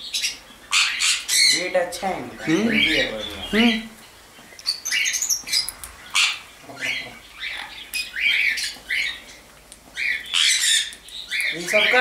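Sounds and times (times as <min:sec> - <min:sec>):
parrots squawking: 0:00.1 - 0:12.0.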